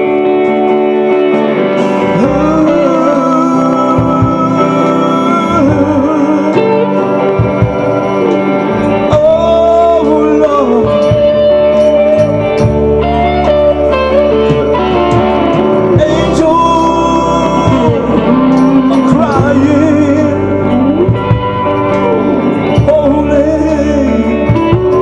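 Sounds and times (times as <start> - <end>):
bass line: 0.0 - 25.0
guitar: 0.0 - 25.0
person singing: 1.7 - 25.0.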